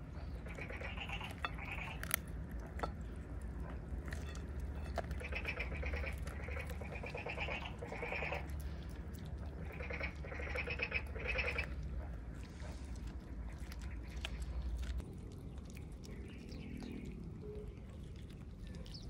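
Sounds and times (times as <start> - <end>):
kittens chewing and gnawing: 0.0 - 19.0.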